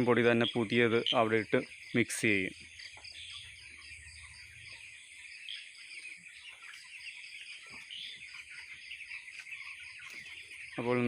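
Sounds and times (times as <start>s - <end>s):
chicks calling softly: 0.0s - 11.0s
crickets chirring: 0.0s - 11.0s.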